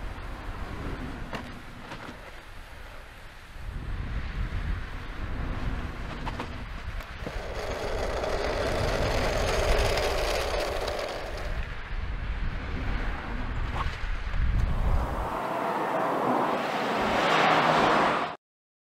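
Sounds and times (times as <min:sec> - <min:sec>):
car tyre and engine noise: 0:00.0 - 0:18.4.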